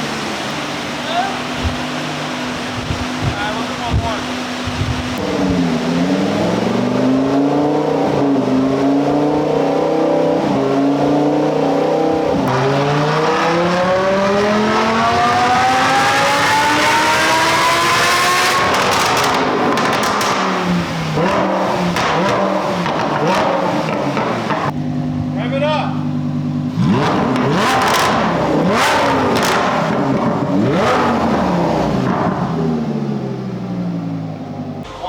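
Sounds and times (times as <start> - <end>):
car engine revving at full throttle: 0.0 - 25.4, 26.0 - 34.9.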